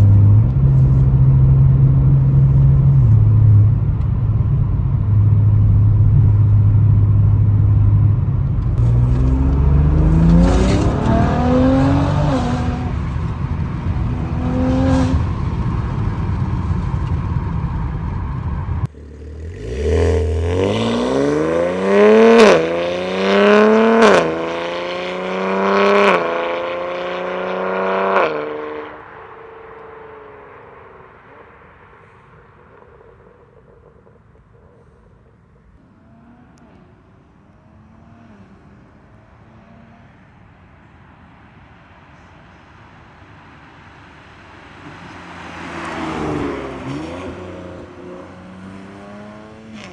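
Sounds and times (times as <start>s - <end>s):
car engine accelerating through gears: 0.0s - 40.4s, 44.7s - 49.9s.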